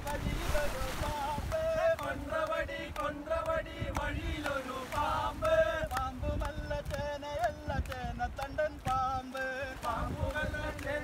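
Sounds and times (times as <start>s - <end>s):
men singing together: 0.0s - 11.0s
hand claps: 1.5s - 11.0s.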